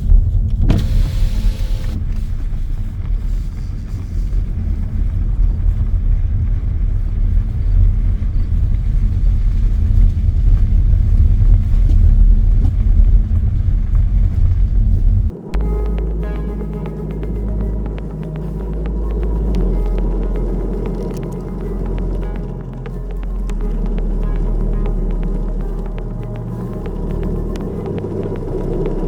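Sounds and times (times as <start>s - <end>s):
road and wind noise in car: 0.0s - 29.0s.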